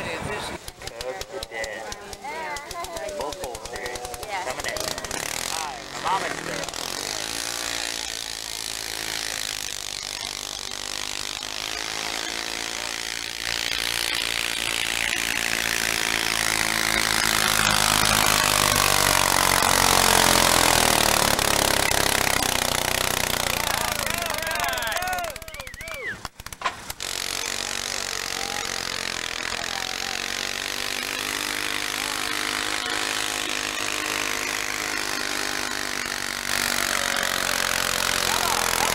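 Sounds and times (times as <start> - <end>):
tractor engine running flat out: 0.0 - 38.9.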